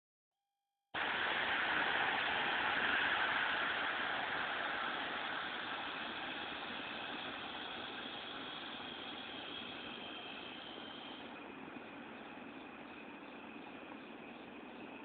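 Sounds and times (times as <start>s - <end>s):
campfire hissing: 1.0s - 15.0s.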